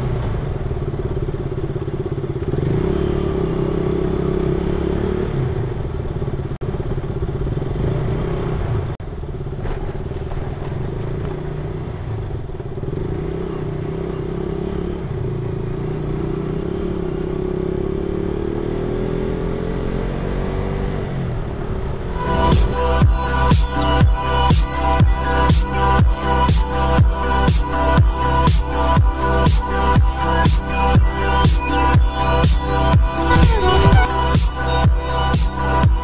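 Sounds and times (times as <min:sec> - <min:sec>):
motorcycle engine running: 0:00.0 - 0:18.4, 0:21.4 - 0:36.0.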